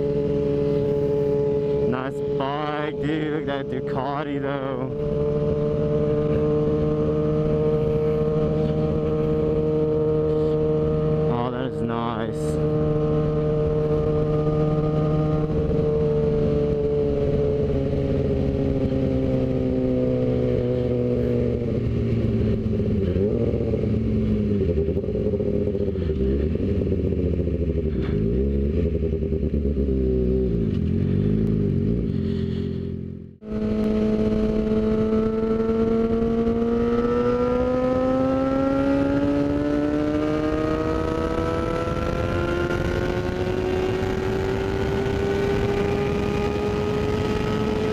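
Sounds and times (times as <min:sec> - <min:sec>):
motorcycle engine: 0:00.0 - 0:47.9
second engine passing: 0:00.0 - 0:47.9
wind: 0:00.0 - 0:47.9.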